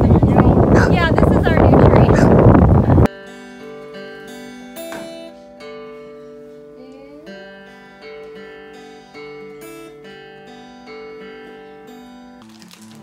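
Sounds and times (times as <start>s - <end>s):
acoustic guitar chords: 0.0s - 12.4s.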